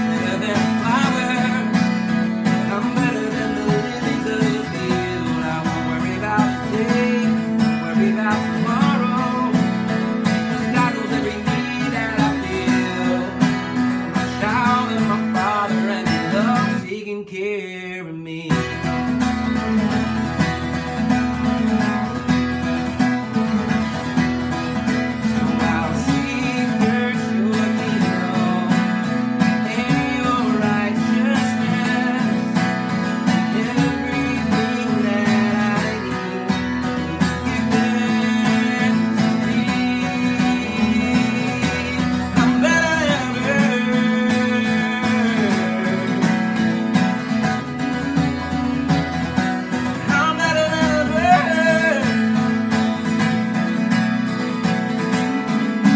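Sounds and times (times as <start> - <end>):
acoustic guitar chords: 0.0 - 55.9.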